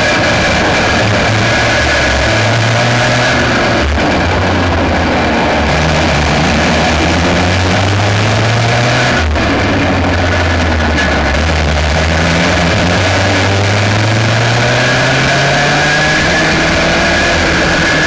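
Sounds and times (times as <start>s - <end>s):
kart engine running: 0.0s - 18.0s
wind and road noise: 0.0s - 18.0s.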